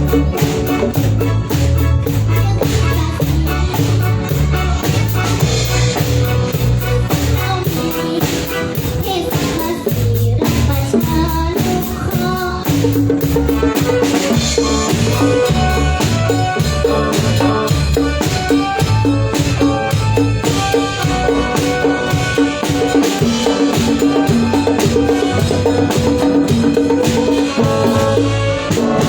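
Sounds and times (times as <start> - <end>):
drum kit steady beat: 0.0 - 29.0
live band playing: 0.0 - 29.0.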